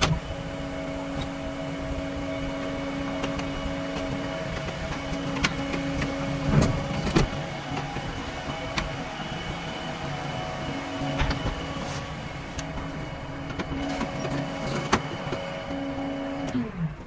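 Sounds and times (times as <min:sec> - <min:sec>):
backhoe loader engine hum: 0:00.0 - 0:17.0.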